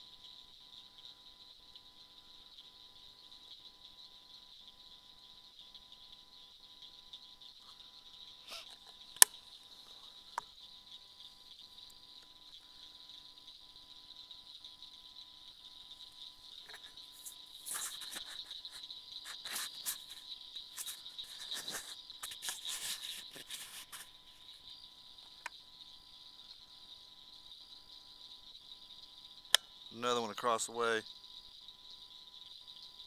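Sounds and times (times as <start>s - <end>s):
insects calling at night: 0.0s - 33.0s.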